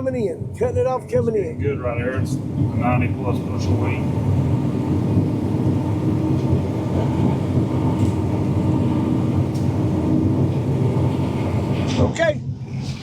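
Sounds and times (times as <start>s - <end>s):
combine harvester running: 1.0s - 13.0s.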